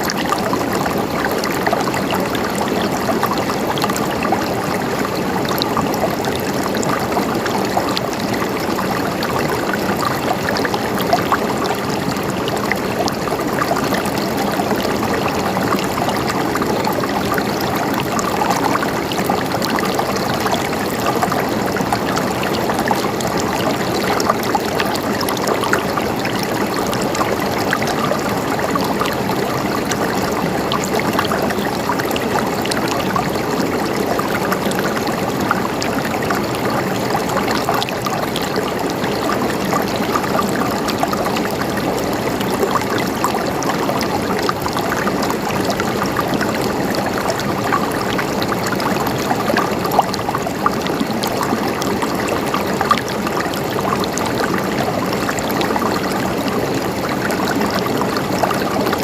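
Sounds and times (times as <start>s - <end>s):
river water babbling over rocks: 0.0s - 59.0s.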